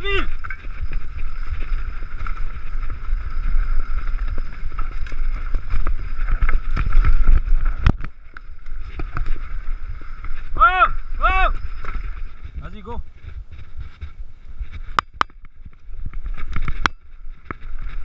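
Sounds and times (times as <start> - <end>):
bike rattling: 0.0 - 18.0
tyres rumbling over rough ground: 0.0 - 18.0
wind buffeting microphone: 0.0 - 18.0.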